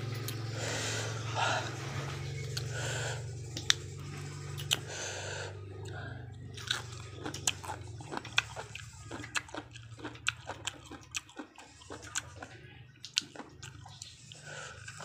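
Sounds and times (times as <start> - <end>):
low steady hum: 0.0 - 15.0
person chewing and crunching food: 0.0 - 15.0.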